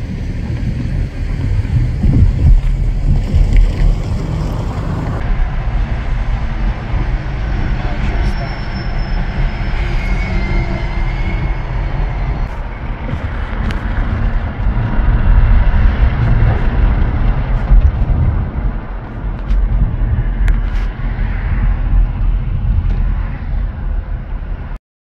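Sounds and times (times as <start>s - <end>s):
truck passing: 0.0s - 20.2s
road and wind noise in a car: 0.0s - 24.8s.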